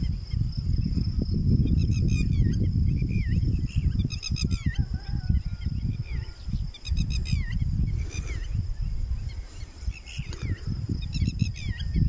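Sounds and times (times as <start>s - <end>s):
birds chirping: 0.0s - 12.0s
wind buffeting microphone: 0.0s - 12.0s.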